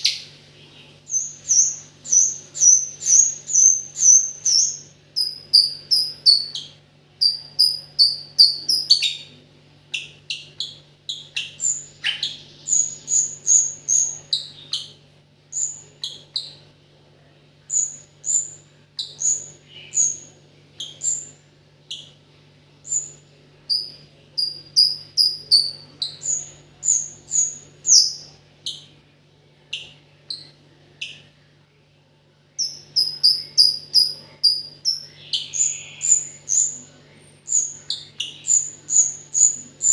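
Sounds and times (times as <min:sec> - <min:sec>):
songbird chirping: 0:00.0 - 0:39.9
steady low hum: 0:00.0 - 0:39.9.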